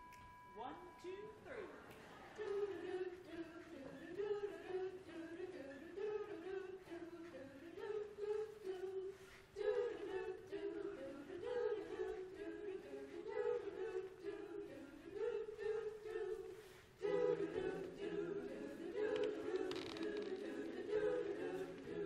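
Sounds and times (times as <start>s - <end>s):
women's chorus singing a cappella: 1.8s - 22.0s.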